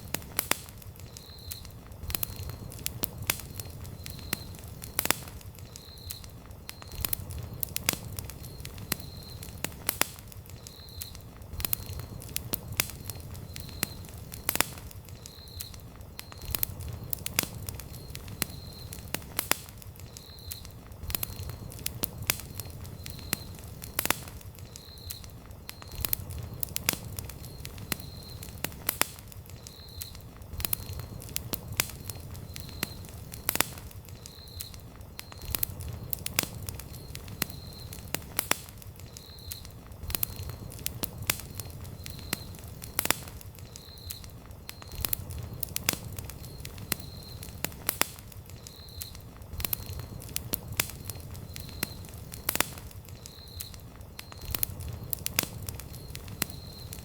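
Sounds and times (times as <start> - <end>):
fire popping and snapping: 0.0 - 57.0
low rumble of flames: 0.0 - 57.0.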